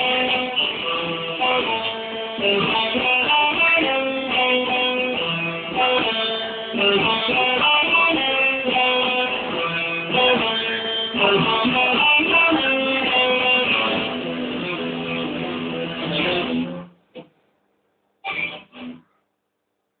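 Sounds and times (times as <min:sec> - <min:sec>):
electric guitar strumming chords: 0:00.0 - 0:17.2, 0:18.2 - 0:19.1.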